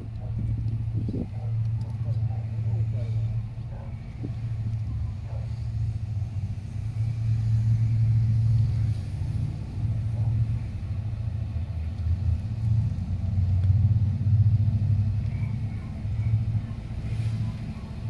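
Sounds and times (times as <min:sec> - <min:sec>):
locomotive diesel engines rumbling: 0:00.0 - 0:18.0.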